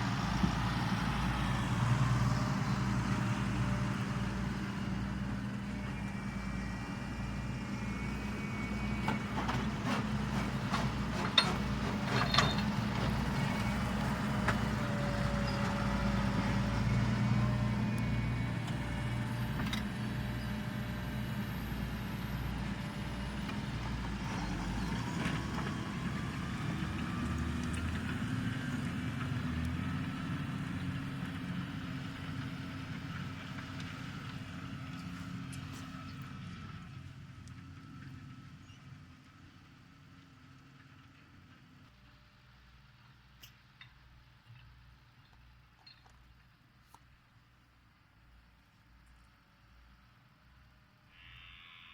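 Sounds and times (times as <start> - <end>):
tractor diesel engine running: 0.0 - 45.4.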